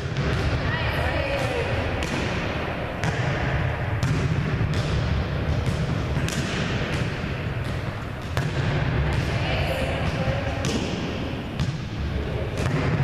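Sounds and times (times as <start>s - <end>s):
ball bouncing on wooden floor: 1.2s - 9.4s, 10.0s - 11.8s, 12.6s - 13.0s
volleyball smacks echoing: 1.2s - 13.0s.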